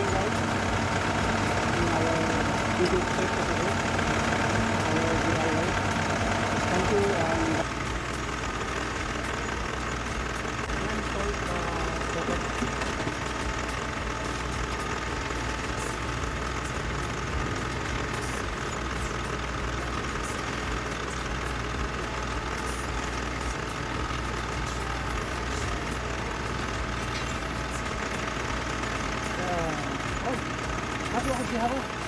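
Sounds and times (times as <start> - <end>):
fan motor droning with whine: 0.0 - 32.0.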